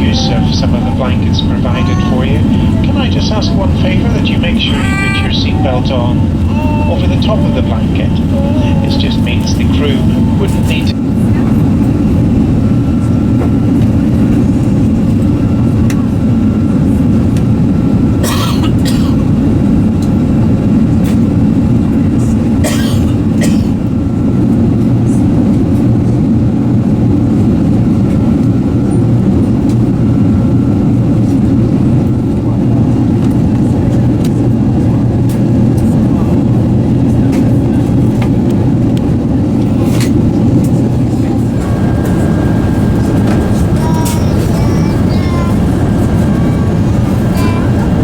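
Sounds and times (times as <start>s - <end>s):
aircraft engines droning: 0.0s - 48.0s.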